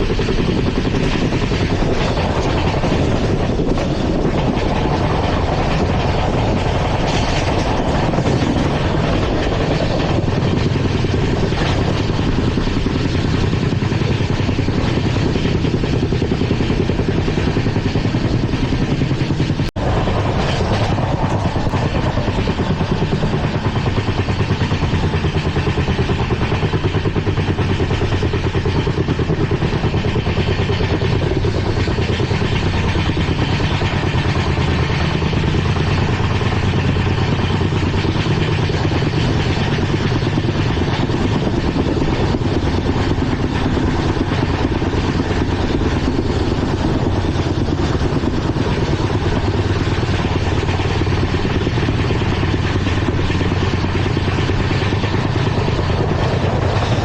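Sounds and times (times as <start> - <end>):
train wheels rattling on track: 0.0 - 57.0.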